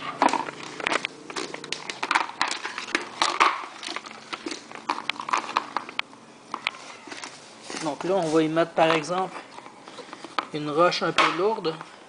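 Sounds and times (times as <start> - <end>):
plastic hose crinkling and clicking: 0.0 - 12.0.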